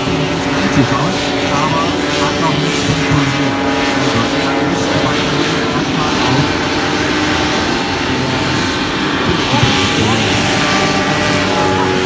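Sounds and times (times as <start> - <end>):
racing hovercraft engines droning: 0.0 - 12.0.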